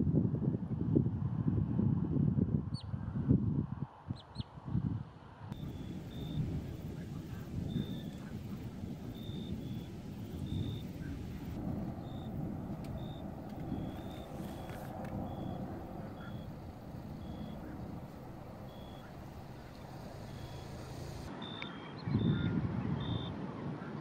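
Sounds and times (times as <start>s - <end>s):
wind rumble: 0.0s - 23.9s.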